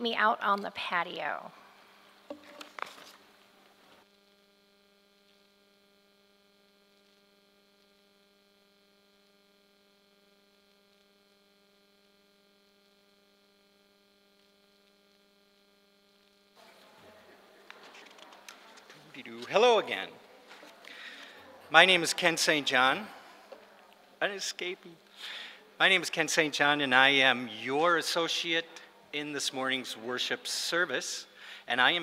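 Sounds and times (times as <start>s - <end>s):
faint electrical hum and buzz: 0.0s - 32.0s.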